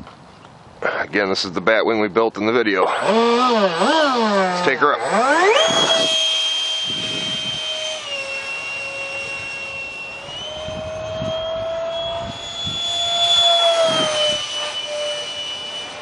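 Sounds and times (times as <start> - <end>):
electric ducted fan whining: 2.6 - 16.0.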